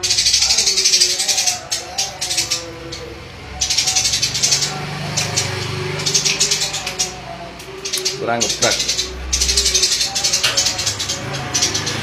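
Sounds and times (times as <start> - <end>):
bird buzzy rattling chatter: 0.0 - 12.0.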